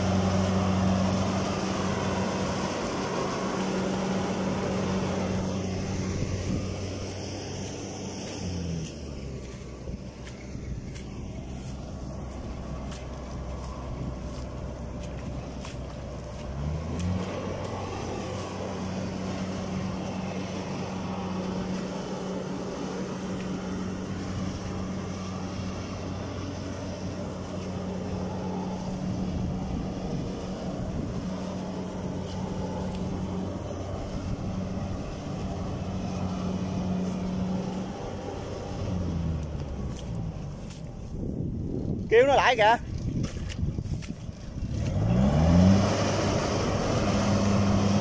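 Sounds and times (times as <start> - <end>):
combine harvester engine droning: 0.0 - 48.0.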